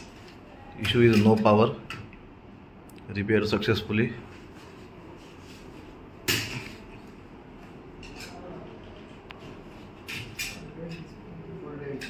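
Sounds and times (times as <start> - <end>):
low steady room hum: 0.0 - 12.0.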